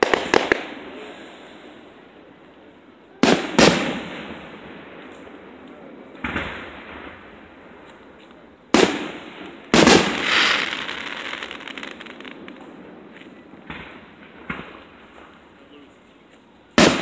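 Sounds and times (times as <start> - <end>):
fireworks booming: 0.0 - 1.8, 3.1 - 15.7, 16.8 - 17.0
faint fireworks bangs: 0.0 - 17.0.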